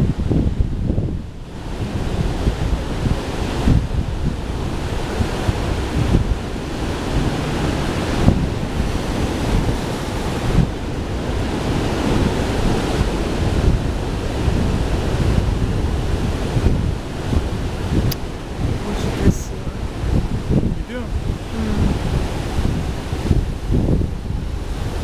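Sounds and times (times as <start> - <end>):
waves washing onto shore: 0.0 - 25.0
wind buffeting microphone: 0.0 - 25.0.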